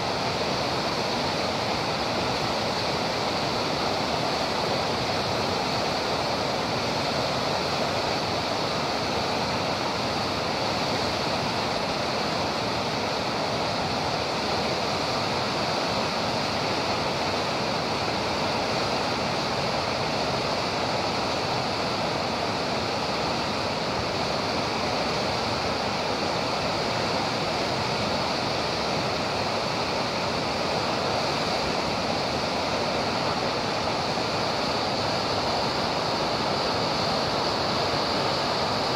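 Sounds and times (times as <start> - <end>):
rushing whitewater: 0.0 - 38.9.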